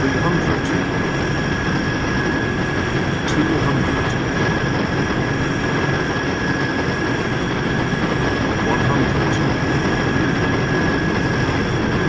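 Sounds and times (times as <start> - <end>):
aircraft engines rumbling: 0.0 - 12.0
high steady whine: 0.0 - 12.0.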